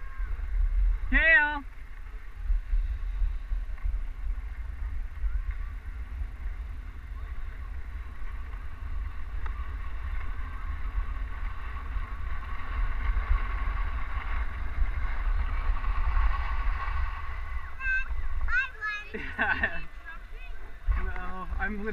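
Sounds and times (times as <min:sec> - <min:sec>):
wind rumbling on microphone: 0:00.0 - 0:21.9
skis sliding on snow: 0:00.2 - 0:21.9.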